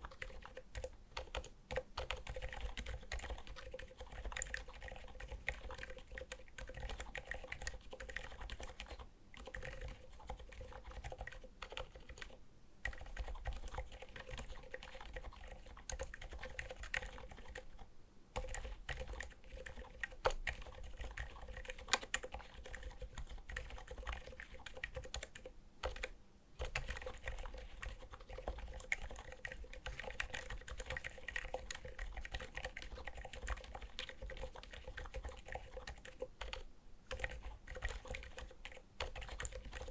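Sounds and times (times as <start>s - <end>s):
muted keyboard typing clicks: 0.0s - 17.8s, 18.4s - 39.9s
faint steady hum: 0.0s - 39.9s.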